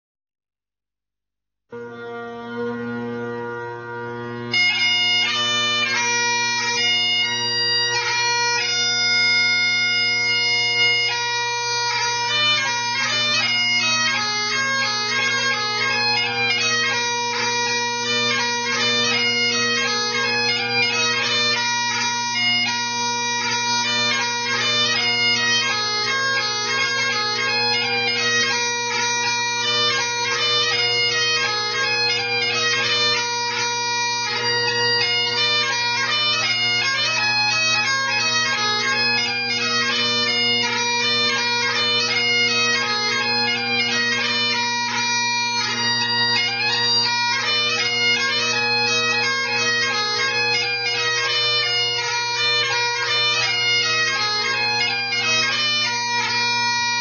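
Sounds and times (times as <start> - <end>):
bagpipe playing a tune: 1.7 - 57.0.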